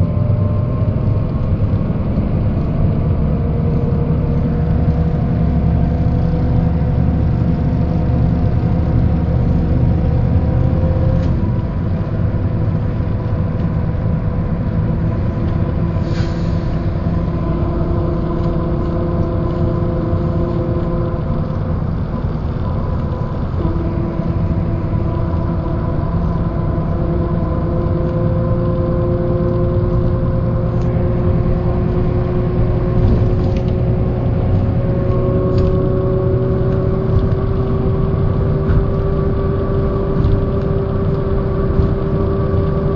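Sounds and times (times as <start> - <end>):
diesel bus engine rumbling: 0.0 - 42.9
drivetrain whine: 0.0 - 42.9.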